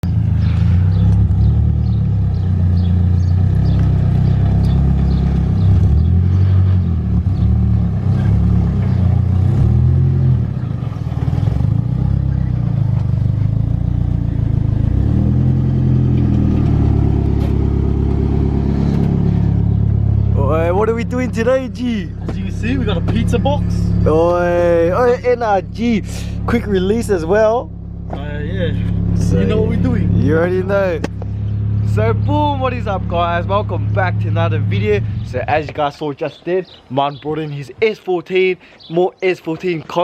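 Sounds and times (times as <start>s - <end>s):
car engine revving: 0.2s - 35.7s.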